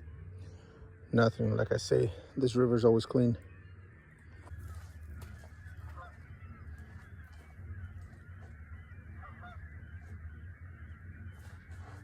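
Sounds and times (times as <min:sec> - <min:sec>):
geese honking: 0:00.0 - 0:12.0
steady low rumble: 0:00.0 - 0:12.0.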